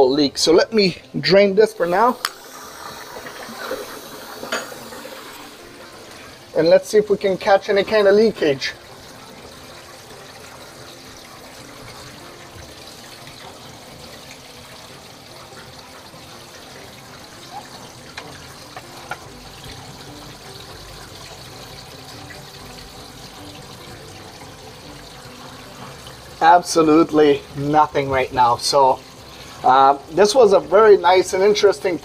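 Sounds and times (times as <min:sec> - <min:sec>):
water draining through pipe: 0:00.0 - 0:32.0.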